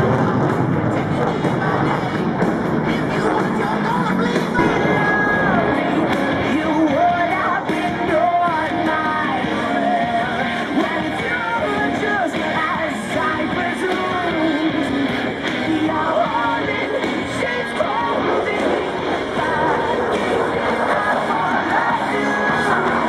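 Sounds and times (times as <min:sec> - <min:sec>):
rock music with singing: 0:00.0 - 0:23.0.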